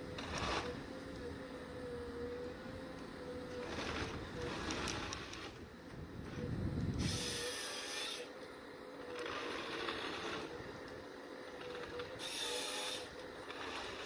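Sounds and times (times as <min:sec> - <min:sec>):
heavy machine whining: 0:00.0 - 0:14.0.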